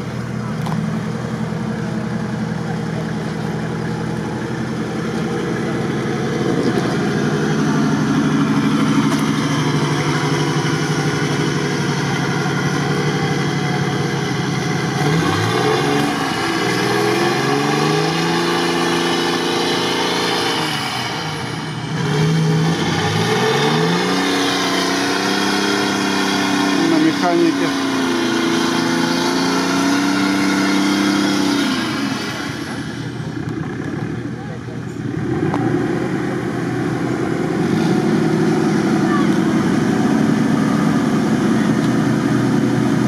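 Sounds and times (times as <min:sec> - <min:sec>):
off-road engine running and revving: 0:00.0 - 0:43.0.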